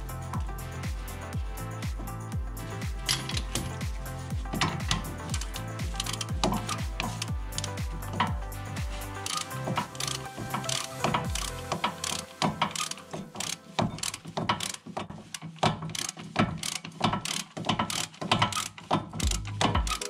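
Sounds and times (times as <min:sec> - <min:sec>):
ratchet wrench clicking: 0:02.0 - 0:20.0.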